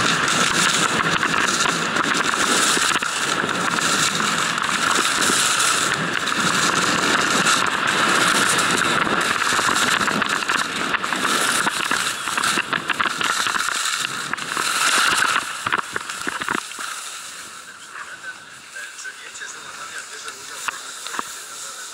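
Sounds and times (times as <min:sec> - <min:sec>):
wind on microphone: 0:00.0 - 0:17.7
ski edges crackling: 0:00.0 - 0:21.9
skis scraping on snow: 0:00.0 - 0:21.9.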